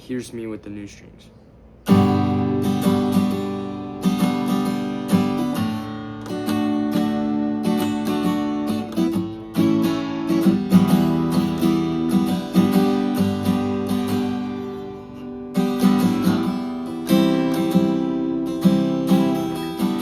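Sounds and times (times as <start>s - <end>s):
acoustic guitar chords strummed: 1.6s - 20.0s.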